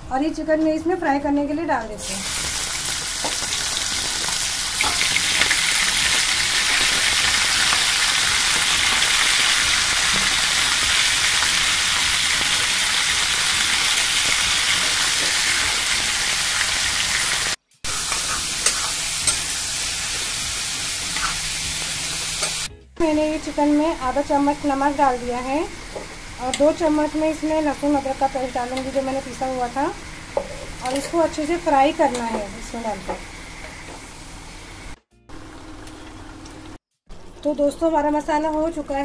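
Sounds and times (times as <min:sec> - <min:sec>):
chicken sizzling in hot oil: 0:02.1 - 0:22.7, 0:23.3 - 0:35.8.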